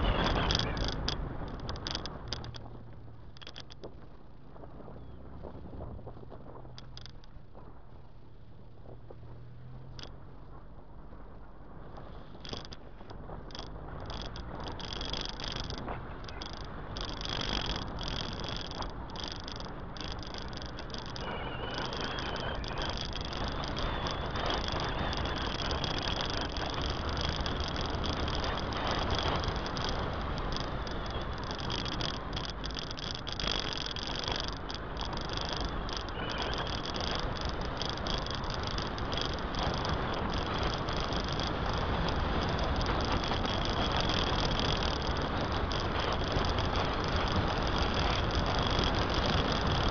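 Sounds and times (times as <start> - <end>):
car road noise: 0.0 - 49.9
wind buffeting microphone: 0.0 - 49.9.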